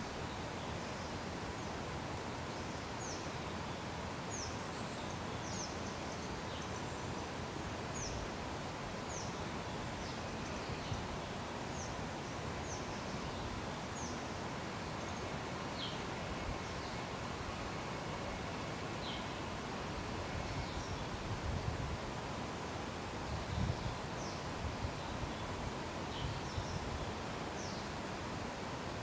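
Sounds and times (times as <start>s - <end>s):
outdoor background hiss: 0.0s - 29.0s.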